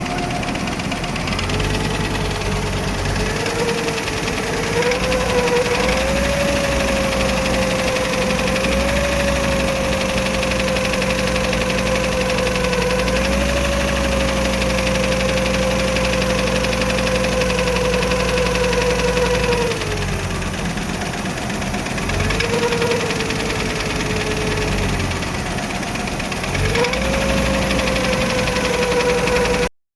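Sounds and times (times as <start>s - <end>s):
car engine idling: 0.0s - 29.7s
engine whine: 0.0s - 29.8s.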